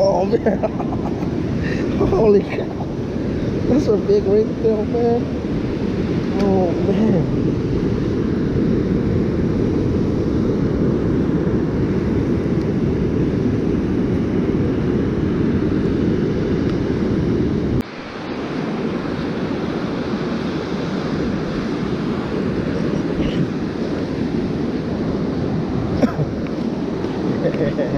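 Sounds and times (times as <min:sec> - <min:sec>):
surf waves: 0:00.0 - 0:27.9
wind buffeting microphone: 0:00.0 - 0:27.9.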